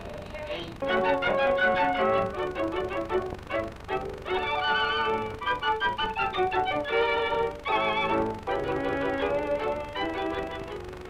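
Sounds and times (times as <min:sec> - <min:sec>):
violin music: 0:00.8 - 0:11.0.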